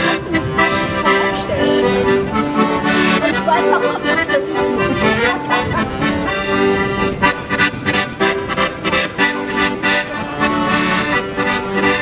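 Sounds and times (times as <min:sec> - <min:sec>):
accordion music: 0:00.0 - 0:12.0.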